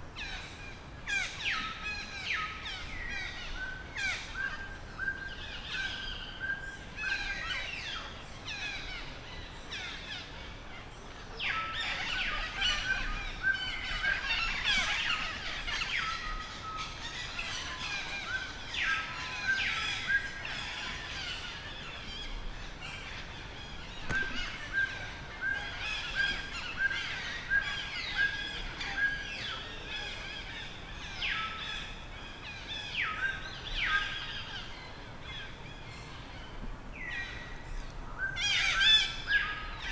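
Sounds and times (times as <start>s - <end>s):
birds chirping and calling: 0.2s - 39.9s.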